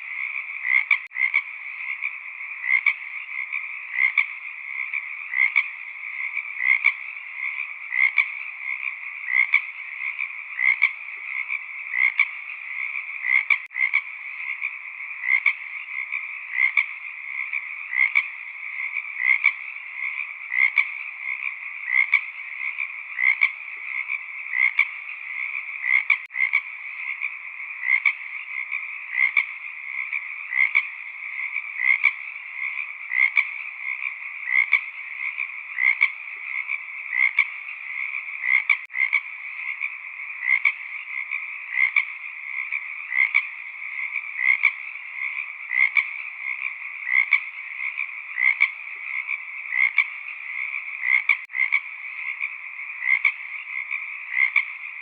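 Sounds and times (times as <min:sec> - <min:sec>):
frogs chorus: 0:00.0 - 0:55.0
loud frog croaks: 0:00.0 - 0:55.0.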